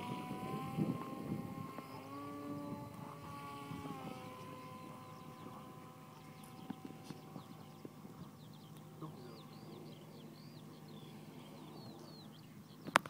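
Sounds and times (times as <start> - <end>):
model aircraft propeller whine: 0.0 - 13.0.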